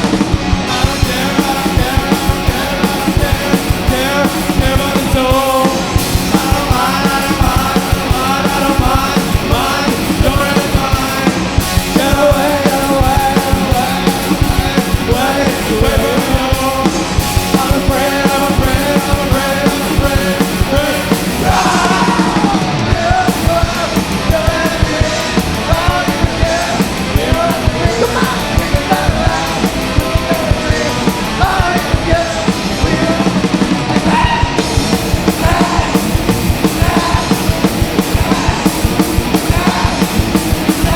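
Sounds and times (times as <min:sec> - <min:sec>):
distorted electric guitars: 0:00.0 - 0:40.9
pounding drums: 0:00.0 - 0:40.9
rock band playing: 0:00.0 - 0:40.9
person singing and yelling: 0:00.6 - 0:40.9.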